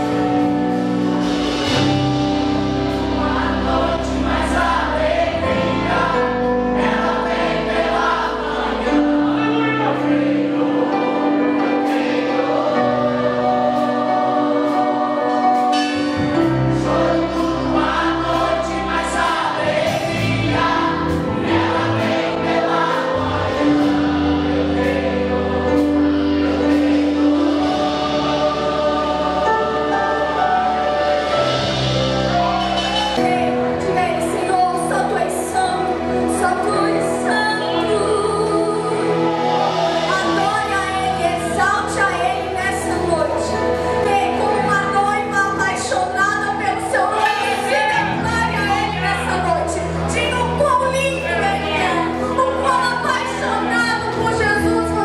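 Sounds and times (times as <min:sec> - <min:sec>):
instrumental accompaniment: 0:00.0 - 0:55.0
mixed choir singing a hymn: 0:00.0 - 0:55.0.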